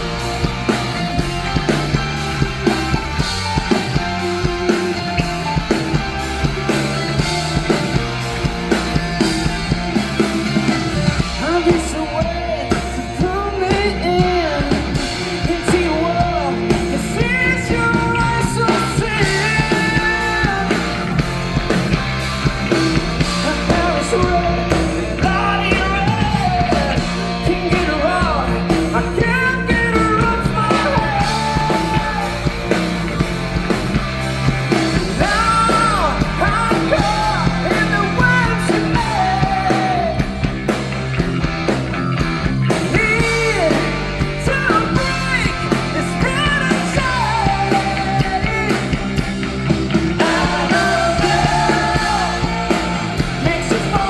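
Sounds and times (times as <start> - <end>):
lead vocal singing: 0.0 - 54.0
live rock band playing: 0.0 - 54.0.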